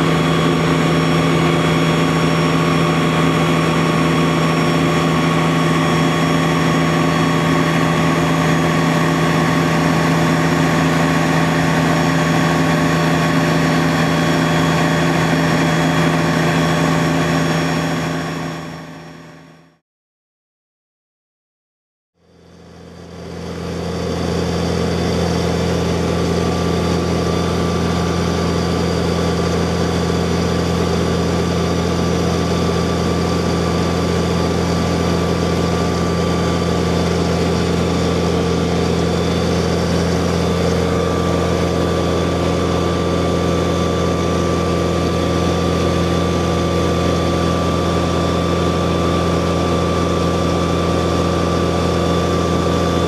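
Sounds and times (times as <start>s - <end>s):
fire engine pump drone: 0.0s - 19.8s, 22.2s - 53.0s.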